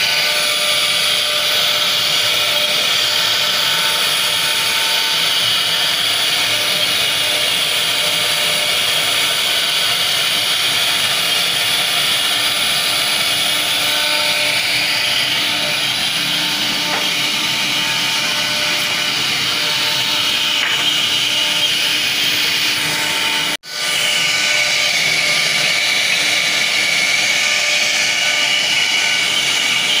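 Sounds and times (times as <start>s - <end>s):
router spindle high whine: 0.0s - 30.0s.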